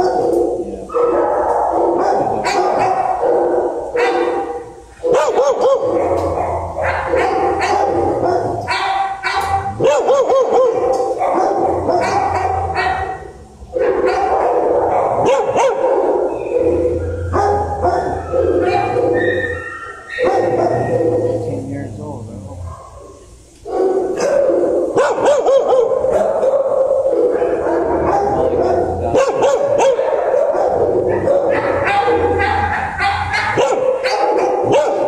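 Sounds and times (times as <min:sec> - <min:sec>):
dogs barking: 0:00.0 - 0:35.0.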